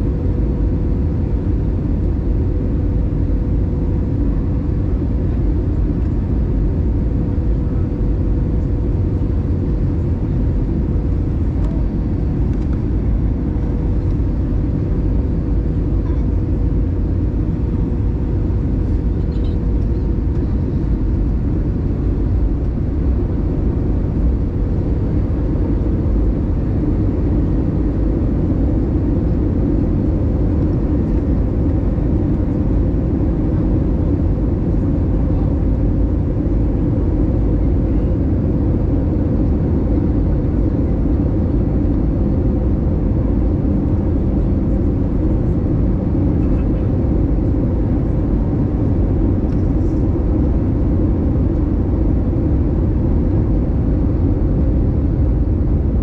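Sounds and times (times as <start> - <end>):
airplane cabin engine rumble: 0.0 - 56.0
steady hum: 0.0 - 56.0.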